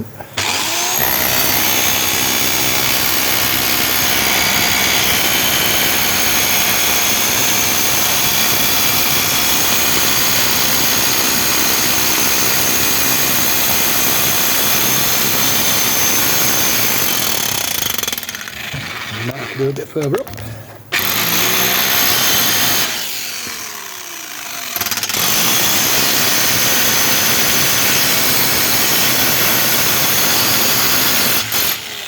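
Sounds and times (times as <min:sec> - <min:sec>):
hammer drill chiselling metal: 0:00.0 - 0:20.1, 0:20.9 - 0:32.0.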